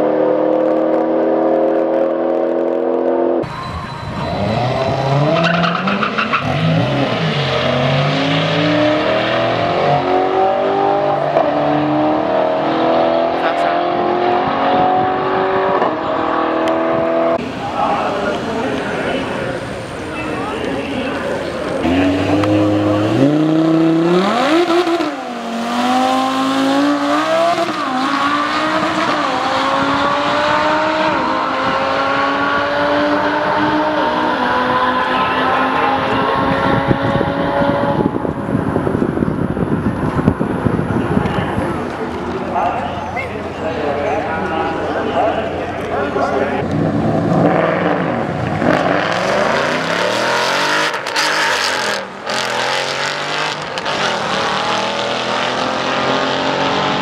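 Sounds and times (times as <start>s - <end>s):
tires chirping: 3.4s - 57.0s
car engine accelerating hard: 4.1s - 57.0s.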